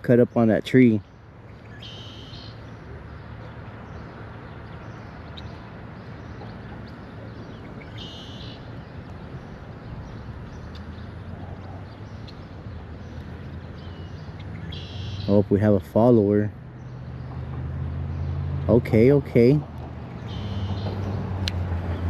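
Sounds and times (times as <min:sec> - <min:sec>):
birds chirping: 0:00.0 - 0:22.0
outdoor air hiss and rumble: 0:00.0 - 0:22.0.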